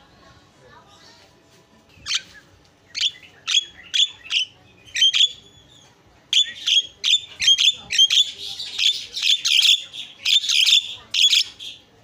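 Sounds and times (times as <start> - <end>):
bird chirping: 2.0 - 11.9.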